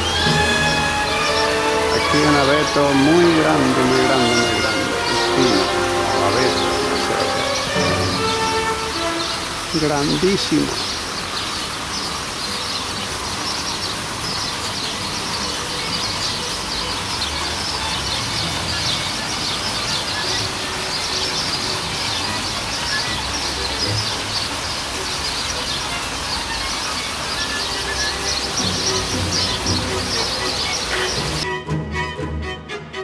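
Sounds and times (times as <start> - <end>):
birds and insects chirping: 0.0 - 31.4.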